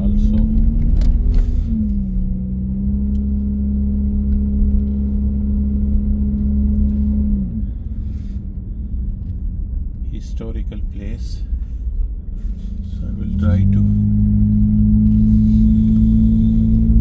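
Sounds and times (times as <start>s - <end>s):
car engine drone: 0.0s - 17.0s
road rumble: 0.0s - 17.0s.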